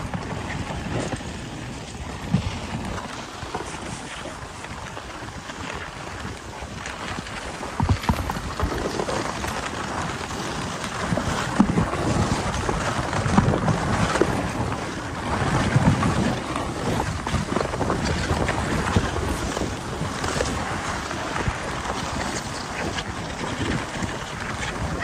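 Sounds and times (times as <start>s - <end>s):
sled knocks and rattles: 0.0s - 25.0s
sled runners scraping snow: 0.0s - 25.0s
wind buffeting microphone: 0.0s - 25.0s.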